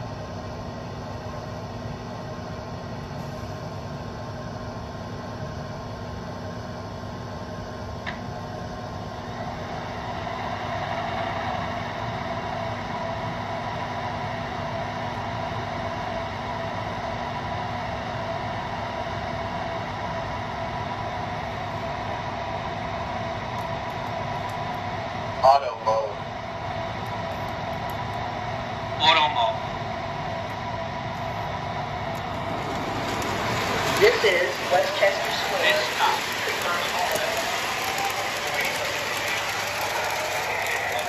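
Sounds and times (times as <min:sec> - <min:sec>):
model train equipment hum: 0:00.0 - 0:41.0.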